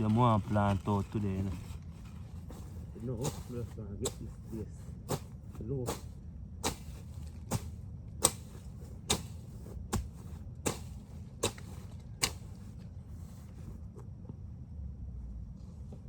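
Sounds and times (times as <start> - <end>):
hand tool cutting weeds with swish: 0.0 - 13.8.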